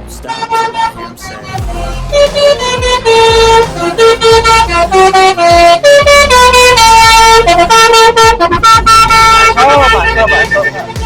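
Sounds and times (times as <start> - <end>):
multi-tone air horn tune: 0.1 - 11.0.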